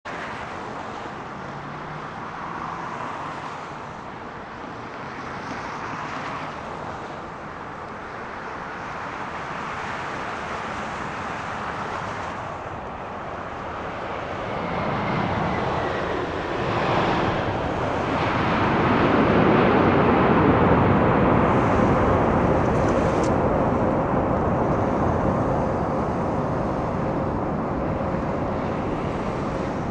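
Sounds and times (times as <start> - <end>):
jet engines on landing: 0.0 - 29.9.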